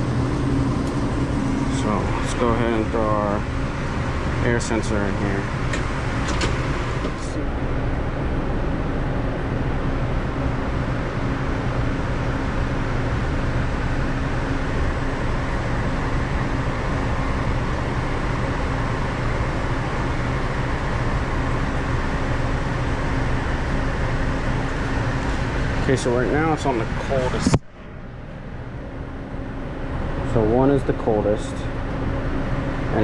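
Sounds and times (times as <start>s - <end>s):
kitchen machinery drone: 0.0s - 33.0s.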